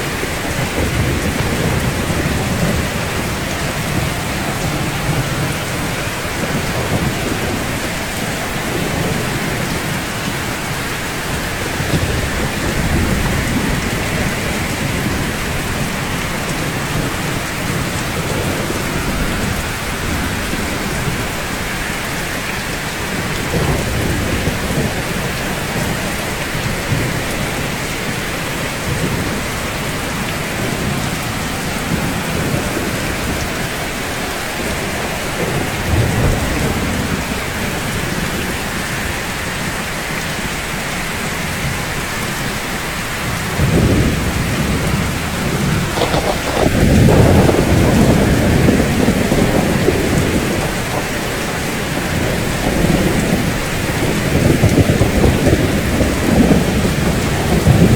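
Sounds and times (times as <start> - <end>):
thunder rumbling: 0.0 - 40.3, 41.1 - 57.9
steady rain: 0.0 - 57.9.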